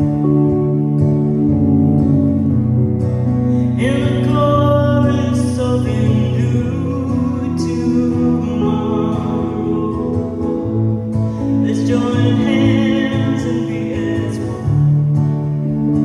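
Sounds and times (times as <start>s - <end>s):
acoustic guitar strumming: 0.0s - 16.0s
keyboard sustained notes: 0.0s - 16.0s.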